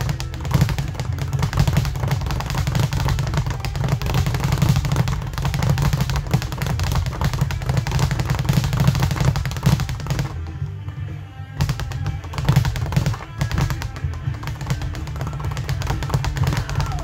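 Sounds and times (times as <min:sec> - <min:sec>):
speed bag rattling rapidly: 0:00.0 - 0:10.4, 0:11.6 - 0:17.0.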